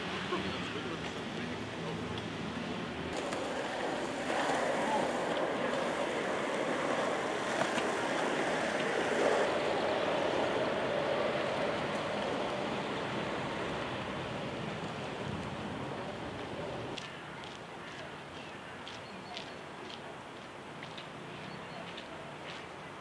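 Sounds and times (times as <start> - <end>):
skateboard wheels rolling on pavement: 0.0 - 23.0.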